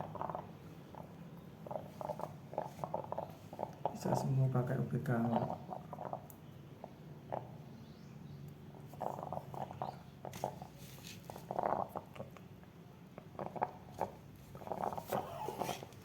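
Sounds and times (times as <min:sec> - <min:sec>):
chicken gurgling: 0:00.0 - 0:04.3, 0:05.2 - 0:07.8, 0:08.8 - 0:16.0.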